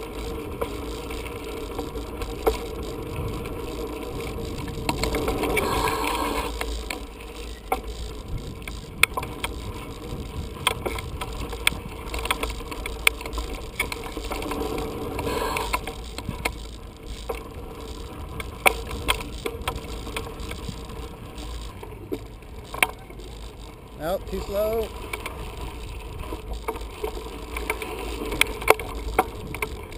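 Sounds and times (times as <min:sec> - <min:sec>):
bike knocking and rattling: 0:00.0 - 0:29.9
freewheel ticking: 0:00.0 - 0:29.9
tyres rolling on dirt: 0:00.0 - 0:29.9.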